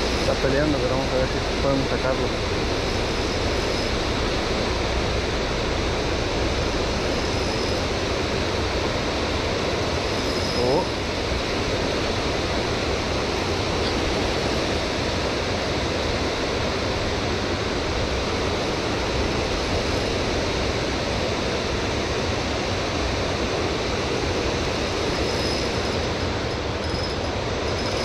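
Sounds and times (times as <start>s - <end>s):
faint high whine: 0.0s - 28.0s
water rushing: 0.0s - 28.0s.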